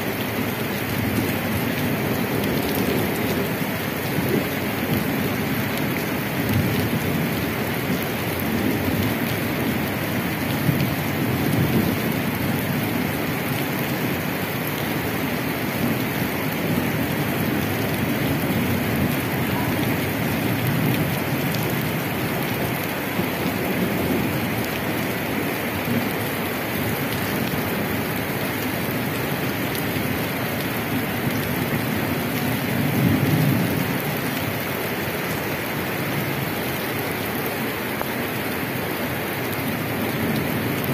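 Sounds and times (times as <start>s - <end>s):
heavy rain on pavement and roofs: 0.0s - 40.9s.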